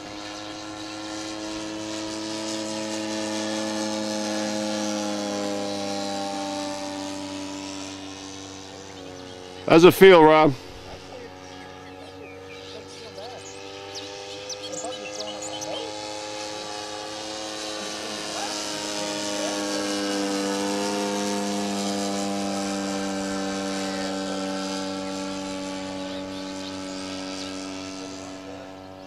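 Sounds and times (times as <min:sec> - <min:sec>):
model plane engine running: 0:00.0 - 0:29.0.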